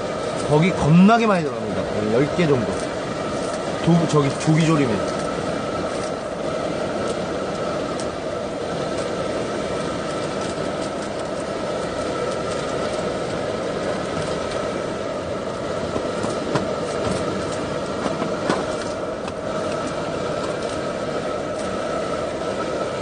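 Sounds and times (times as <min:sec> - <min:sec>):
pan boiling and bubbling: 0:00.0 - 0:23.0.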